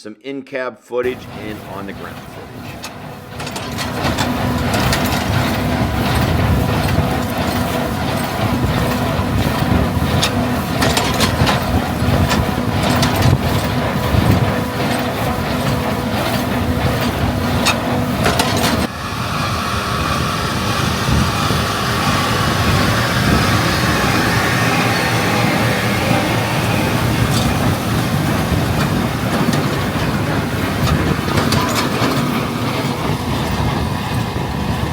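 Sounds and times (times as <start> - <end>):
mechanical clicks and clacks: 1.0 - 34.9
steady engine drone: 1.0 - 34.9
tractor engine running: 1.0 - 34.9.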